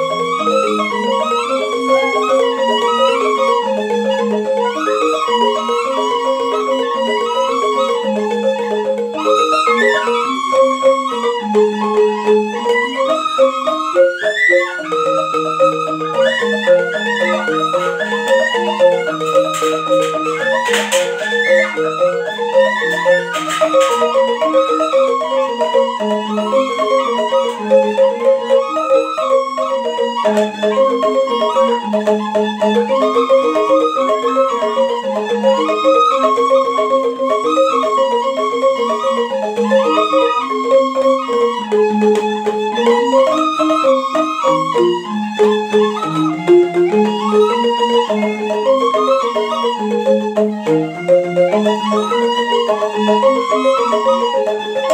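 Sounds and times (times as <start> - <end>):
bamboo flutes playing a melody: 0.0 - 54.9
bamboo xylophones struck with mallets: 0.0 - 54.9.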